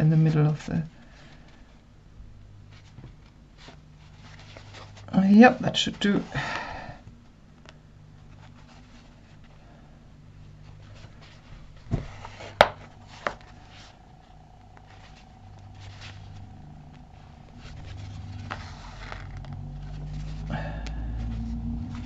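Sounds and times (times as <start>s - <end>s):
fabric handling noise: 0.0s - 22.0s
low steady hum: 0.0s - 22.0s.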